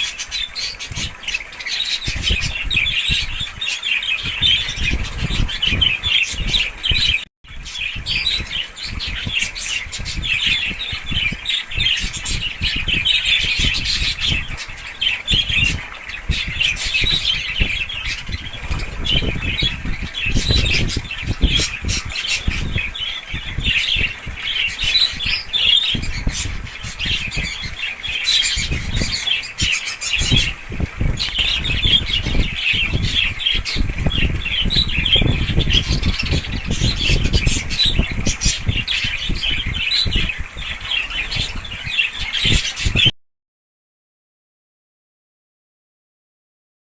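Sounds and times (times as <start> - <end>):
birds chattering and squawking: 0.0 - 43.1
wings flapping: 0.0 - 43.1.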